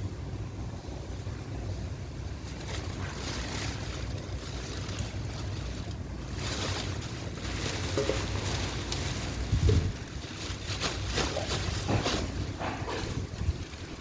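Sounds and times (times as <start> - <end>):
wind and rain on microphone: 0.0 - 14.0.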